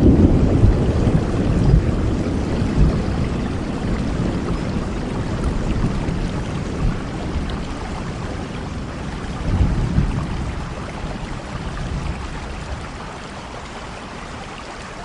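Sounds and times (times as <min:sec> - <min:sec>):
thunder rumbling: 0:00.0 - 0:13.7
heavy rain: 0:00.0 - 0:15.0.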